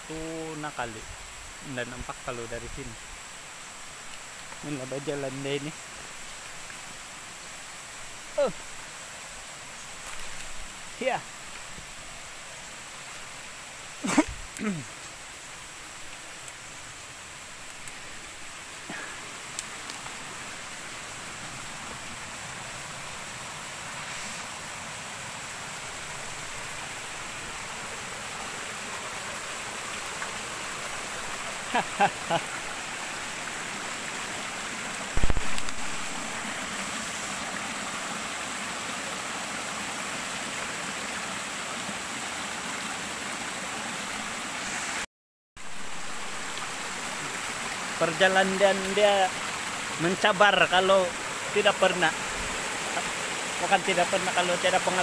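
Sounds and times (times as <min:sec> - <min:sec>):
forest stream running: 0:00.0 - 0:55.0.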